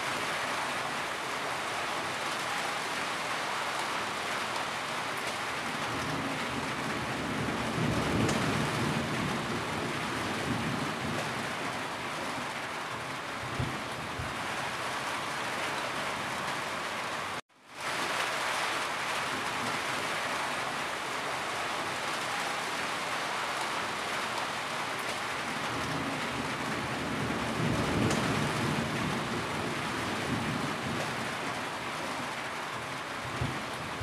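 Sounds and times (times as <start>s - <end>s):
rain drumming on a tin roof: 0.0s - 34.0s.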